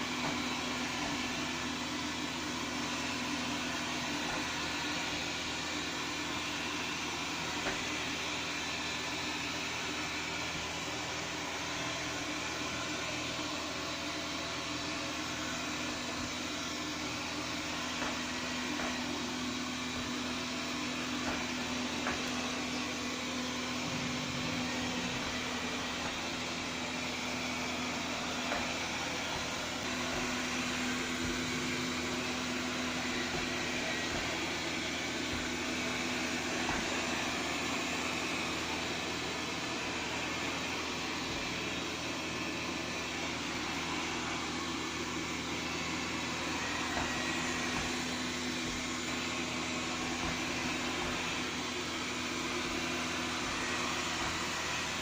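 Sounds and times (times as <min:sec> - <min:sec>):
robot vacuum whirring: 0:00.2 - 0:55.0.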